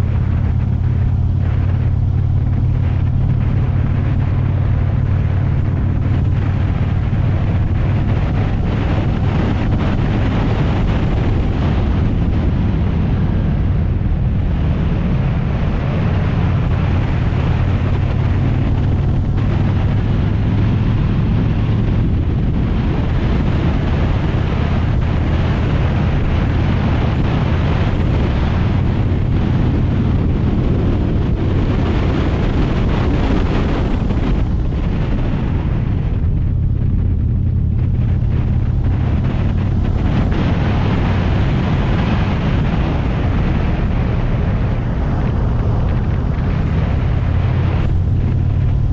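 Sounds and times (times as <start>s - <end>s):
motorcycle engine running: 0.0s - 48.9s
wind rush on microphone: 0.0s - 48.9s.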